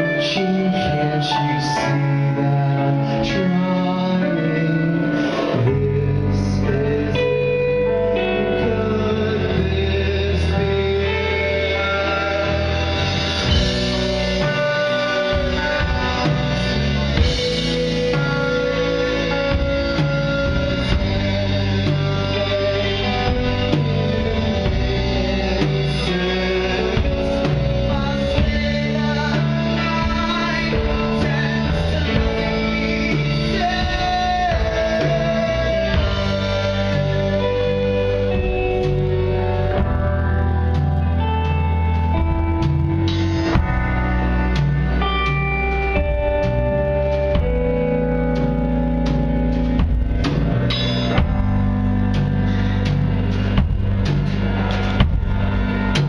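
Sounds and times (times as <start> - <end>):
man singing: 0.0 - 47.9
rock band playing live: 0.0 - 56.0.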